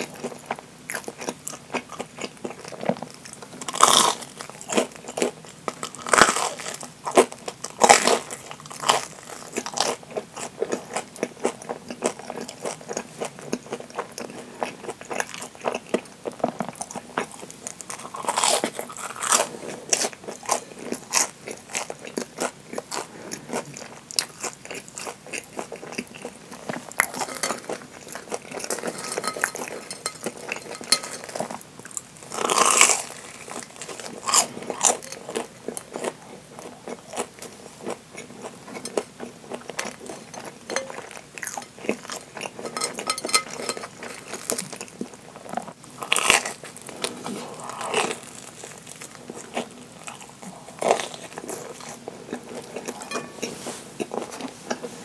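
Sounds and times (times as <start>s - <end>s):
crunching and chewing fried bread: 0.0s - 55.0s.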